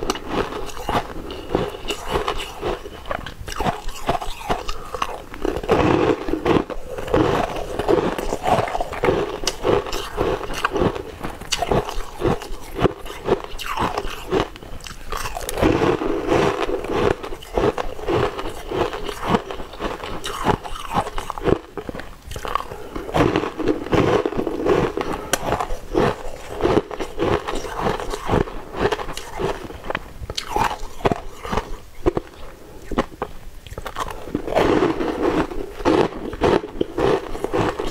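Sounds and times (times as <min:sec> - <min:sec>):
crunching ice: 0:00.0 - 0:37.9.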